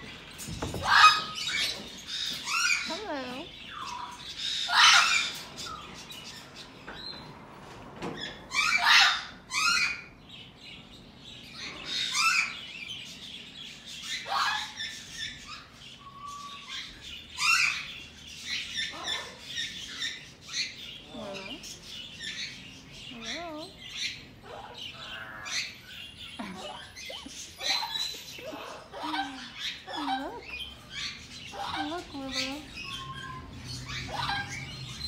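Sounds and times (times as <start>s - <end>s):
parrots squawking and chirping: 0.0s - 35.0s.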